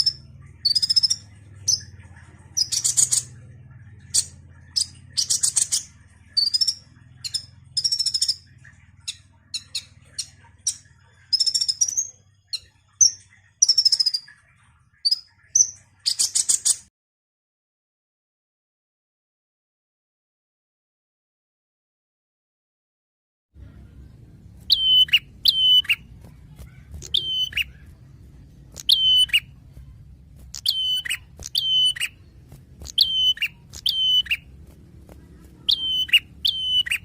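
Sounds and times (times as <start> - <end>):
faint low hum: 0.0 - 16.8, 23.6 - 37.0
sunbird chirps and trills: 0.0 - 16.9, 23.6 - 37.0.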